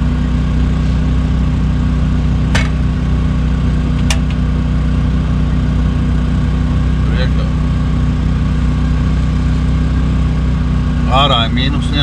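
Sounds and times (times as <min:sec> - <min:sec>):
generator engine humming: 0:00.0 - 0:12.0.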